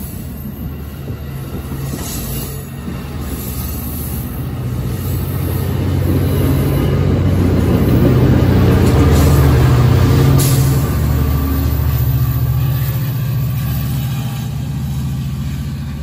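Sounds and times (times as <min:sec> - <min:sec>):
diesel locomotive drone: 0:00.0 - 0:16.0
train wheels rumbling: 0:00.0 - 0:16.0.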